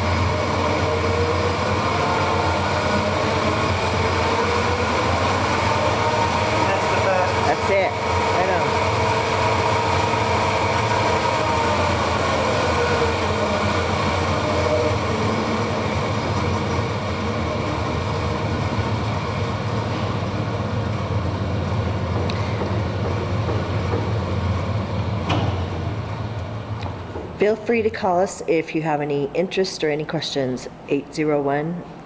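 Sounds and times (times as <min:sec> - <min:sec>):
band saw motor humming: 0:00.0 - 0:27.2.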